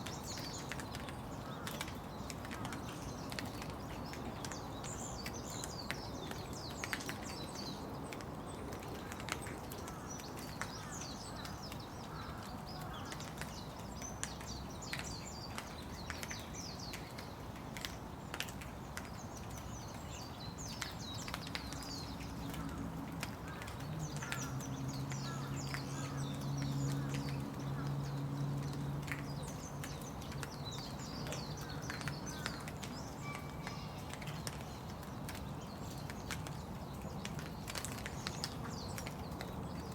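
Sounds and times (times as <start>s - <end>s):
raindrops tapping: 0.0s - 39.9s
small birds chirping: 0.0s - 39.9s
steady rain: 0.0s - 39.9s.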